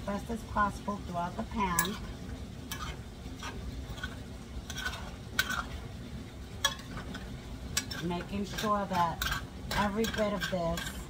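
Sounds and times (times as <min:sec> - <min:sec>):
spoon stirring food in pan: 0:01.4 - 0:11.0.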